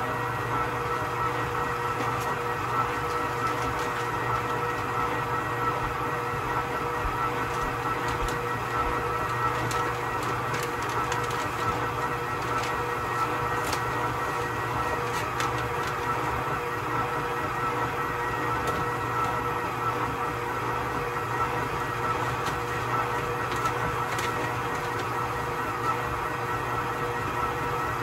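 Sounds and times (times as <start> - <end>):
electric mixer motor running: 0.0 - 28.0.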